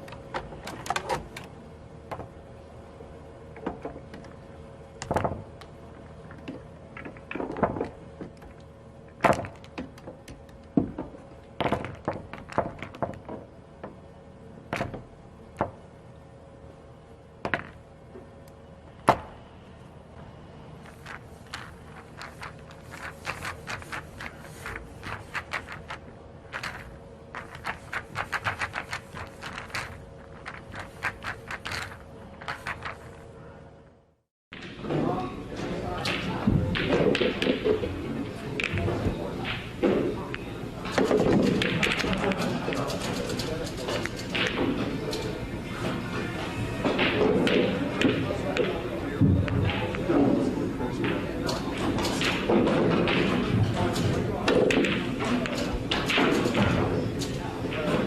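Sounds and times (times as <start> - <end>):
billiard balls clacking: 0.0 - 2.5, 3.5 - 15.9, 17.4 - 19.4, 20.8 - 33.3, 34.6 - 58.0
steady low hum: 0.0 - 58.0.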